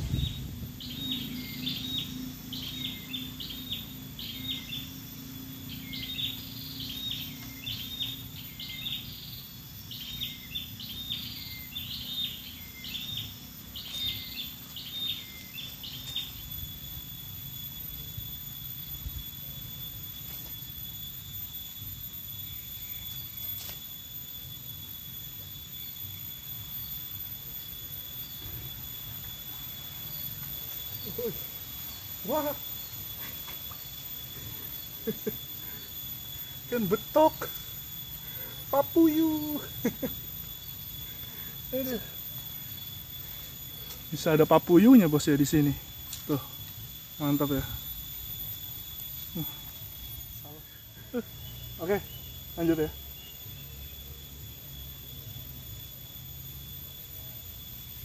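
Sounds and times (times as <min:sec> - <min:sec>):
outdoor background noise: 0:00.0 - 0:58.0
thin high-pitched drone: 0:00.0 - 0:58.0.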